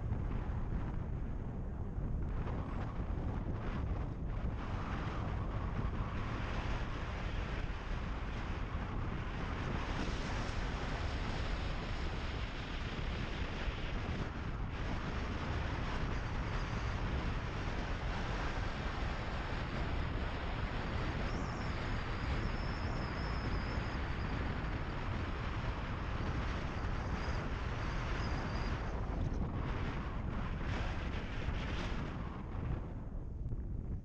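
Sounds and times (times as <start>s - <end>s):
wind rushing on microphone: 0.0s - 34.0s.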